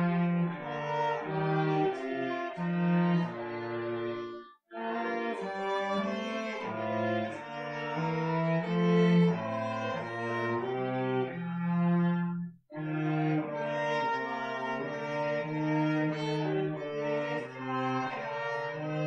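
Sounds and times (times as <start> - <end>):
cello playing bass line: 0.0 - 19.0
violin melody: 0.0 - 19.0.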